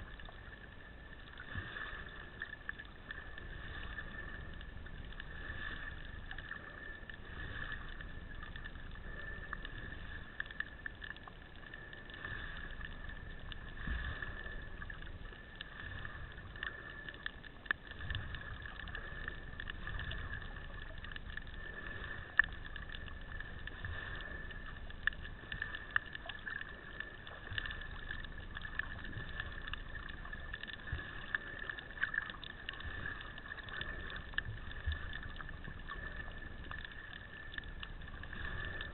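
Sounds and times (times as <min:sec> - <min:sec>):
clicks and crackles: 0:00.0 - 0:38.9
water rumbling: 0:00.0 - 0:38.9.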